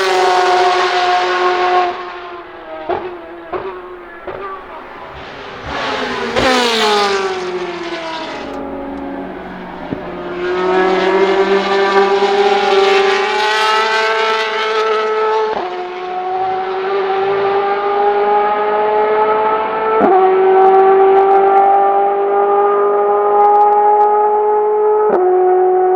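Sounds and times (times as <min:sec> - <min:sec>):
race car passing by: 0:00.0 - 0:23.3
race engine revving high: 0:00.0 - 0:25.9.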